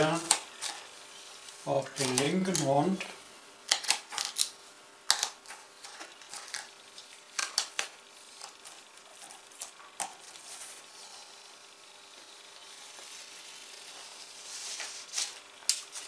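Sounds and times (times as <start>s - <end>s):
masking film peeling crackles: 0.0s - 3.0s, 3.7s - 11.3s, 12.1s - 16.0s.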